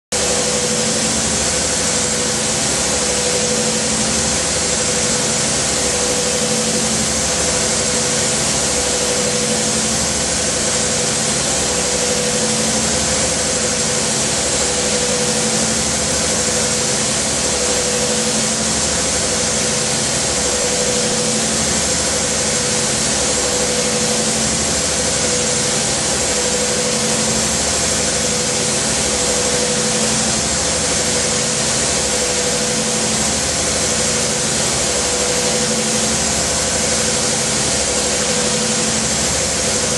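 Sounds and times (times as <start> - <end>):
milling machine cutting metal: 0.2 - 39.9.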